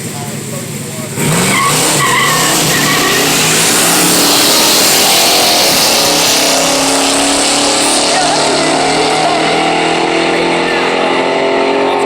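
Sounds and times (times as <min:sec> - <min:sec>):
drag racing engines at full throttle: 0:00.0 - 0:12.0.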